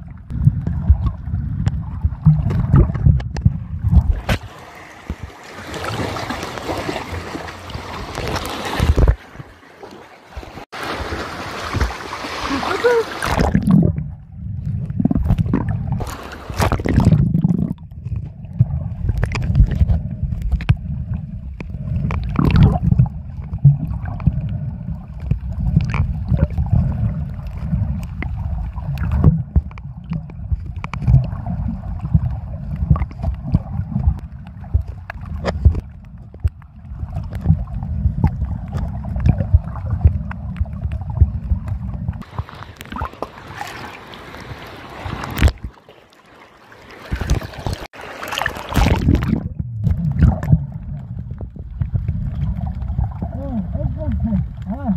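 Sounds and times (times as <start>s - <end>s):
underwater clicks and crackles: 0.0s - 10.6s, 13.2s - 46.2s, 46.8s - 54.9s
underwater rumble of moving water: 0.0s - 54.9s
water splashing: 0.0s - 54.9s.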